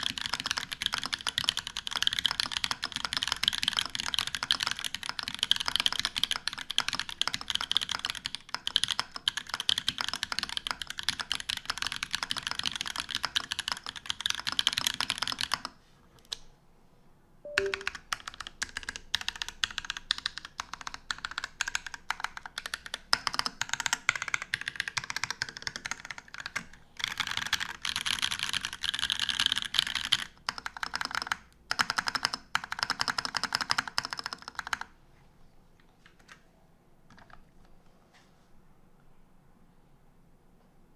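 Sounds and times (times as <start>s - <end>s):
mechanical keyboard typing: 0.0s - 16.4s, 17.5s - 34.9s.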